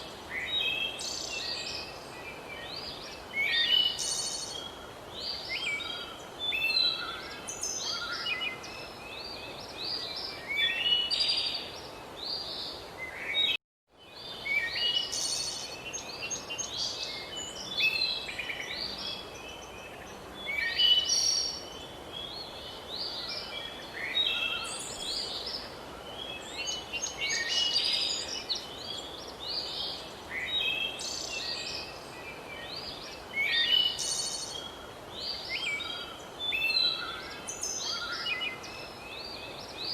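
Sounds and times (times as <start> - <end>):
songbirds chirping and trilling: 0.0 - 39.9
steady background hiss: 0.0 - 39.9.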